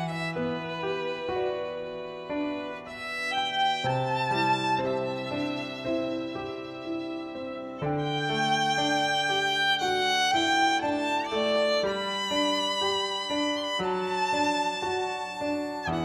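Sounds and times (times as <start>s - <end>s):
background music melody: 0.0s - 16.0s.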